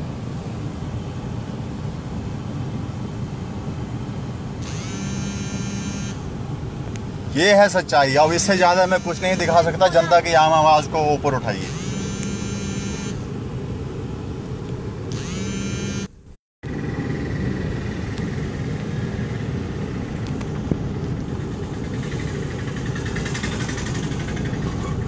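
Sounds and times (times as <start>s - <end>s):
car engine rumble: 0.0s - 25.0s.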